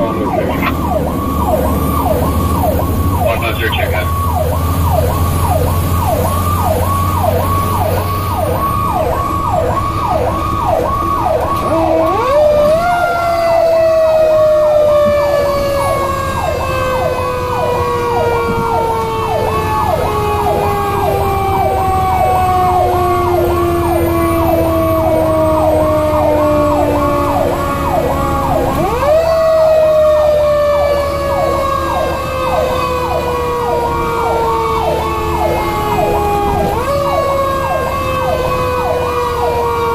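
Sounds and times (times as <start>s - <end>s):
electronic siren yelping: 0.0s - 39.9s
rising and falling siren: 0.0s - 39.9s
truck engine droning: 0.0s - 39.9s.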